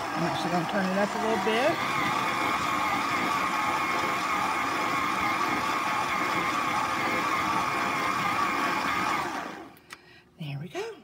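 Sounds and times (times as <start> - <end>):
stand mixer motor whining: 0.0 - 9.8.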